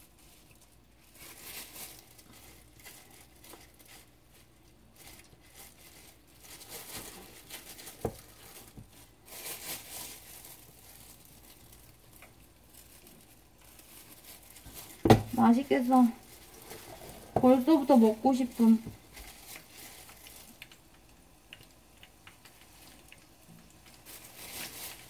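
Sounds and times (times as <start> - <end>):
shrimp crackling in hot oil: 0.0 - 16.8, 17.9 - 25.0.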